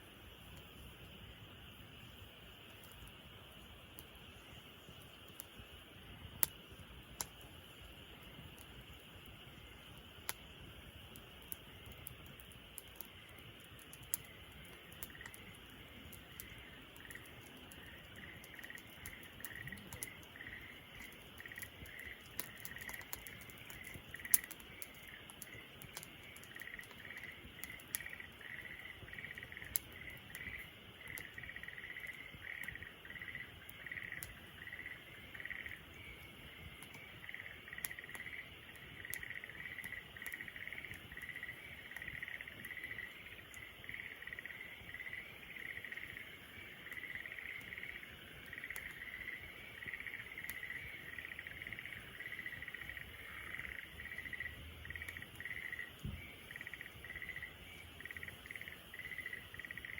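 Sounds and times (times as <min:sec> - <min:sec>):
wood fire crackling and popping: 0:00.0 - 0:59.9
high chirring of night animals: 0:08.2 - 0:59.9.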